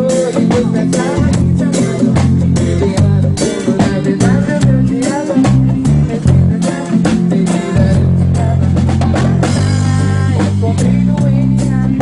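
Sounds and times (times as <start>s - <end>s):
drum kit beating: 0.0s - 12.0s
rock guitar: 0.0s - 12.0s
sustained bass line: 0.0s - 12.0s.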